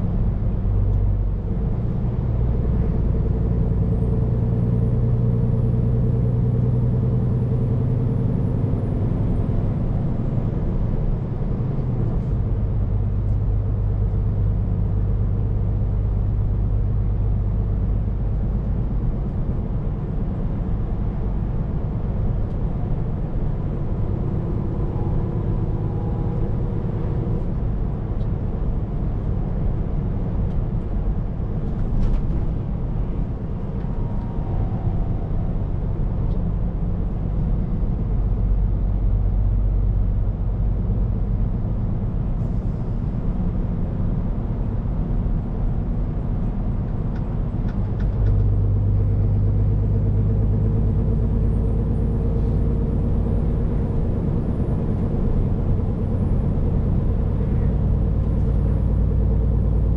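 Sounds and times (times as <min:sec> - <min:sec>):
truck engine and tyres rumbling: 0:00.0 - 0:59.9.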